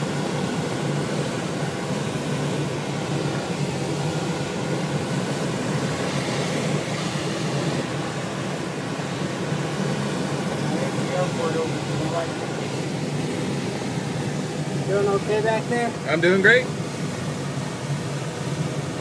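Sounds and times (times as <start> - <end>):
plane engine drone: 0.0 - 19.0
rush of air over canopy: 0.0 - 19.0.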